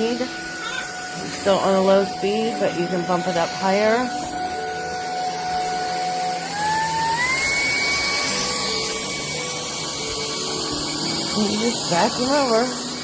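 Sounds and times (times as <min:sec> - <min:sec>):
suction hiss: 0:00.0 - 0:13.0
vacuum motor whine: 0:00.0 - 0:13.0.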